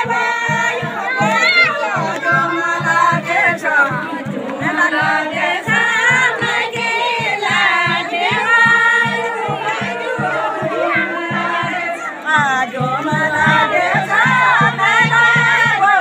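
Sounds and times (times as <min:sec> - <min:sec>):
group singing folk song: 0:00.0 - 0:16.0
steady low beat: 0:00.0 - 0:16.0.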